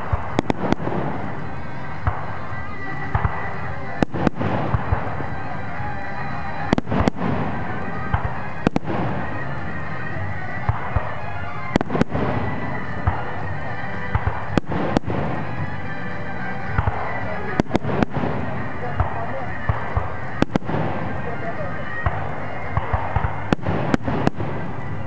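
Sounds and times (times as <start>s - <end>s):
firework shells bursting: 0.0s - 25.0s
fireworks background noise: 0.0s - 25.0s.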